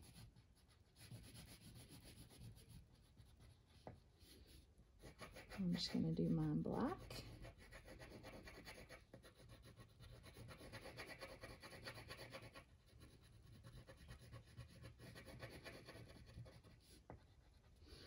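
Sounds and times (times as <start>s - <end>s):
crayon scribbling on paper: 0.0s - 18.0s.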